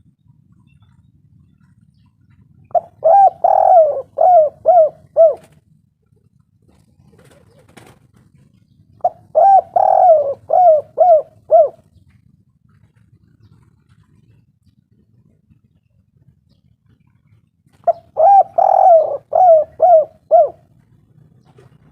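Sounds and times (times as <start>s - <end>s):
dove cooing: 1.6s - 5.7s, 6.6s - 15.8s, 16.6s - 21.9s.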